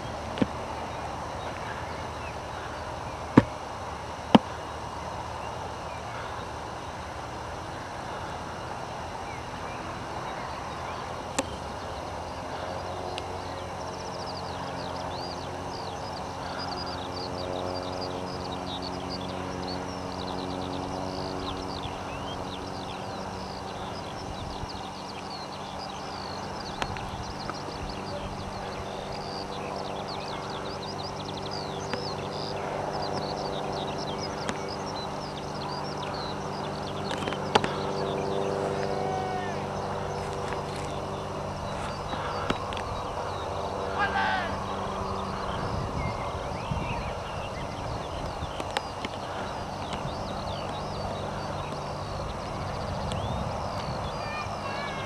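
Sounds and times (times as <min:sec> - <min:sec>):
birds chirping: 0:00.0 - 0:55.0
distant engine droning: 0:00.0 - 0:55.0.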